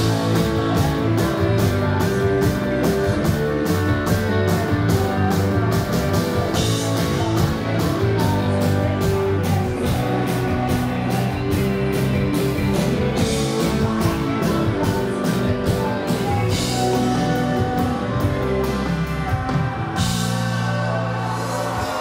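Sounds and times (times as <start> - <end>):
live rock band playing: 0.0 - 22.0
steady drum beat: 0.0 - 22.0.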